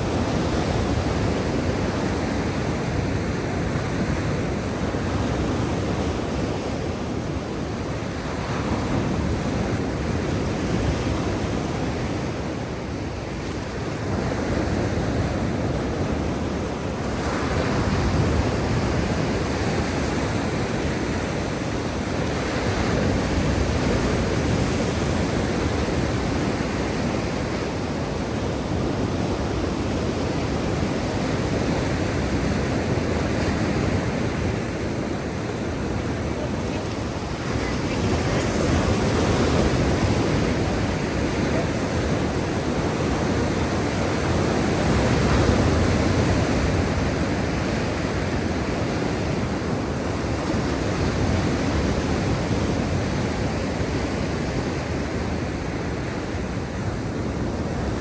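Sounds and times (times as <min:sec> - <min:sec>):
waves washing in: 0:00.0 - 0:58.0.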